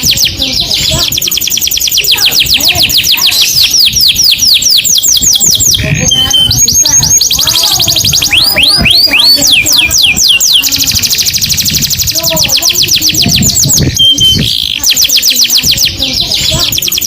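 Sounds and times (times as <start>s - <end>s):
canary singing trills: 0.0s - 17.0s.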